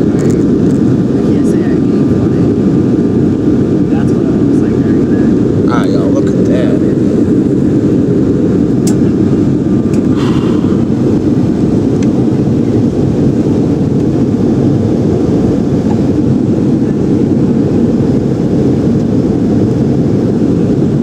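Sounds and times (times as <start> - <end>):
jet engines rumbling: 0.0 - 21.0
rushing air: 2.5 - 21.0.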